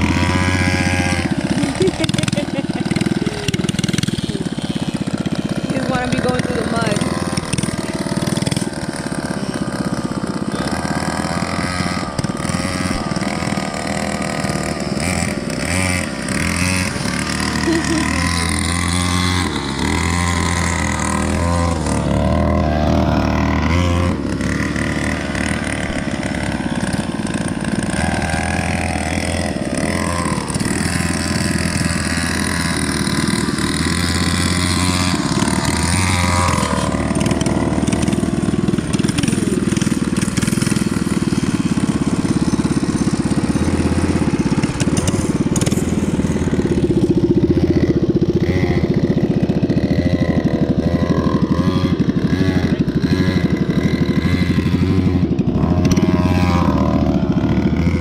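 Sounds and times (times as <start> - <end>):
mini bike engine revving: 0.0 - 58.0.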